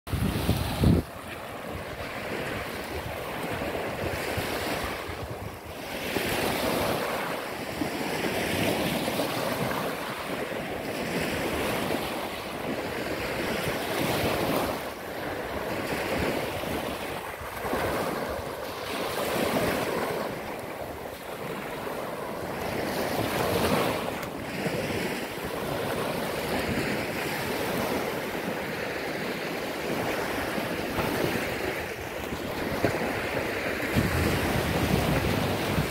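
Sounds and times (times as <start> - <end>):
small waves breaking on sand: 0.1 - 35.9.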